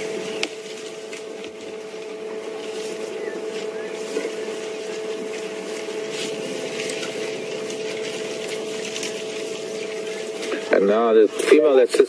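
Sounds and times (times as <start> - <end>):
twigs and leaves crackling: 0.0 - 11.8
two-tone hum: 0.0 - 12.0.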